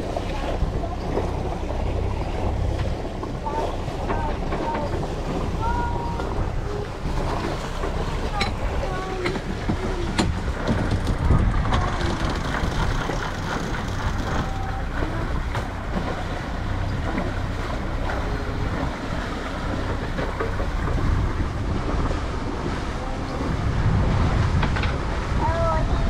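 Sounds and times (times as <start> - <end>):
boat rushing through water: 0.0 - 26.0
wind buffeting microphone: 0.0 - 26.0.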